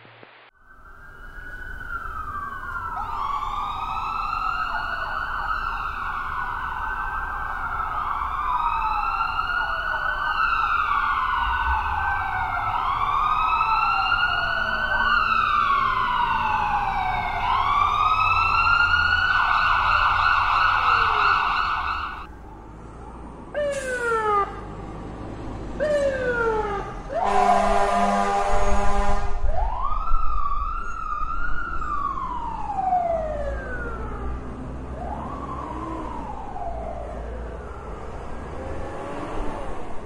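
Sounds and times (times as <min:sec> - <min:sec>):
ambulance siren wailing: 0:00.5 - 0:25.1, 0:25.7 - 0:40.0.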